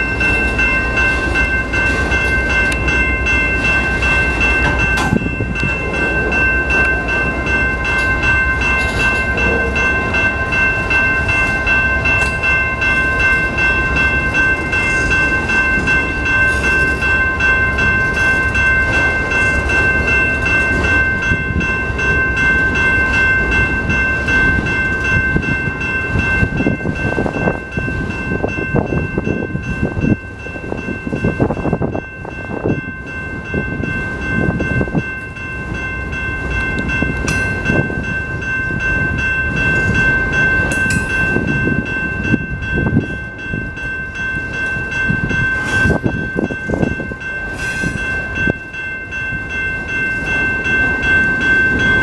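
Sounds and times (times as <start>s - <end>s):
freight train wheels clattering on rails: 0.0s - 52.0s
steady high ringing tones: 0.0s - 52.0s.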